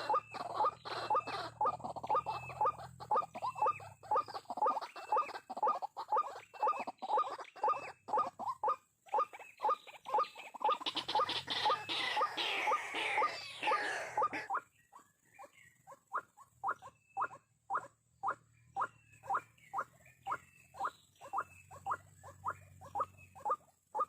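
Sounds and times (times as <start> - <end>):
higher-pitched chatter of calls: 0.0 - 24.0
waterhen calling: 0.0 - 24.0.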